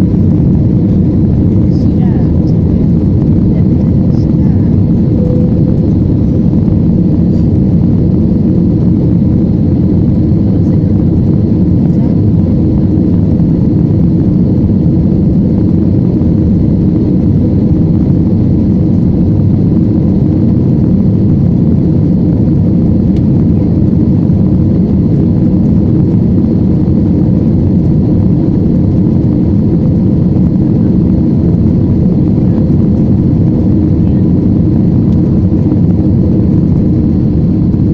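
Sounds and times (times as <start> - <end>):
airplane engine rumble: 0.0 - 37.9
faint high whine: 0.0 - 37.9.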